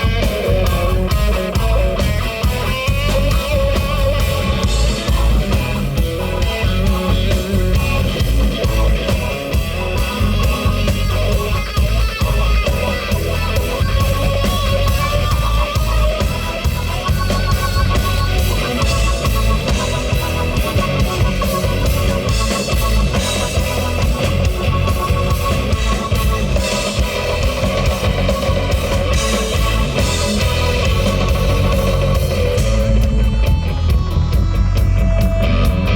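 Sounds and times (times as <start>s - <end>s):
distorted electric guitar: 0.0s - 35.9s
rock band playing: 0.0s - 35.9s.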